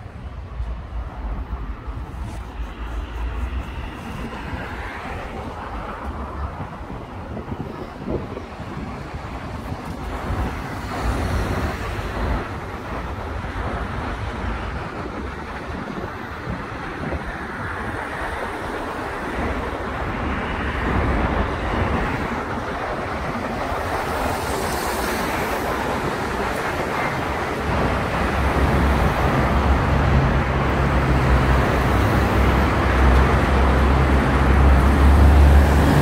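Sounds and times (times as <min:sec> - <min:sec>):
road traffic passing: 0:00.0 - 0:36.0
wind on microphone: 0:00.0 - 0:36.0.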